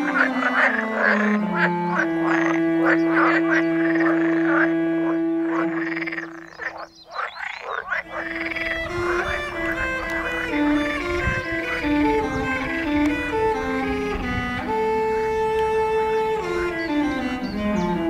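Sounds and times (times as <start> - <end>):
background music low held notes: 0.0 - 18.0
frogs croaking: 0.0 - 18.0.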